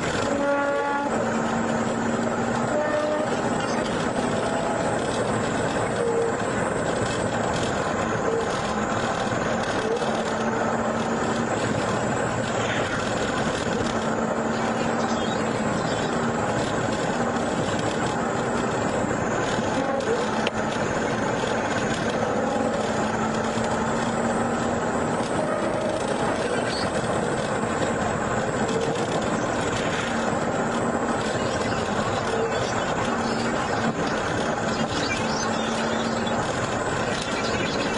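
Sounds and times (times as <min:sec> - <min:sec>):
car road and engine noise: 0:00.0 - 0:37.9.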